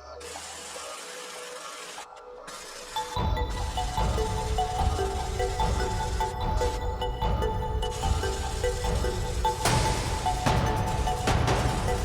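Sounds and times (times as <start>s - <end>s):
background music with steady beat: 2.0s - 12.0s.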